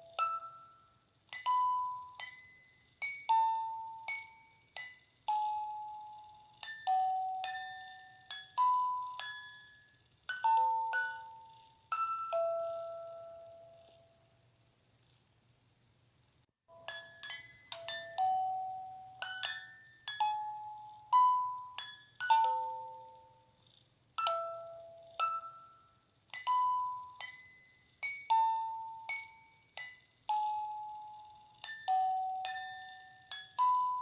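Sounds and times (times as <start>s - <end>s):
lullaby on chiming instrument: 0.0s - 14.2s, 16.7s - 23.6s, 24.2s - 34.0s.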